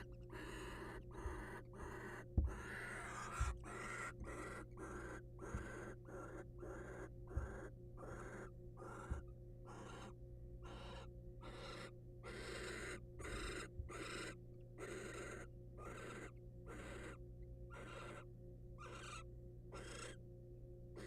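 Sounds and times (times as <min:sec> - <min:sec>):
owl hissing snore-like calls: 0:00.0 - 0:18.2, 0:18.8 - 0:20.2
low electrical hum: 0:00.0 - 0:21.0.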